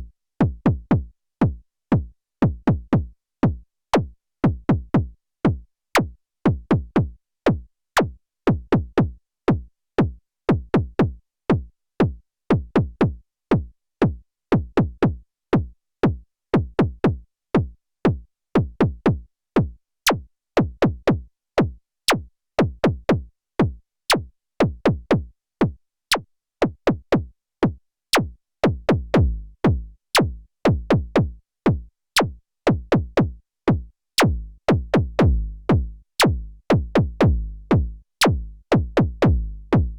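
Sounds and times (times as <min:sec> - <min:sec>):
synthesizer kick drum pattern: 0:00.0 - 0:39.9.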